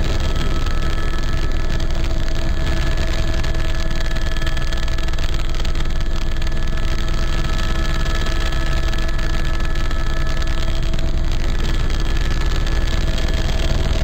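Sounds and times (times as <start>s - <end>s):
helicopter engine and rotor noise: 0.0s - 14.0s.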